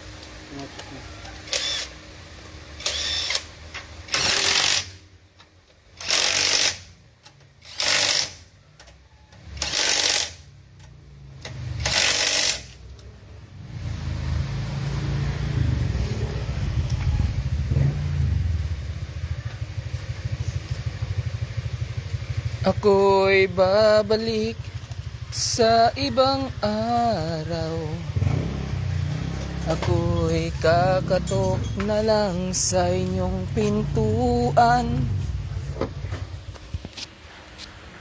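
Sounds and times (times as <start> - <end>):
engine running with low throb: 0.0 - 38.0.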